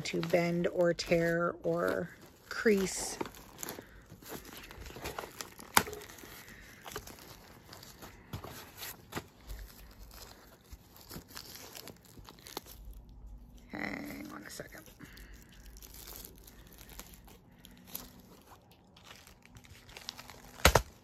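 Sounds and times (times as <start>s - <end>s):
paper and packaging rustling: 0.0s - 21.0s.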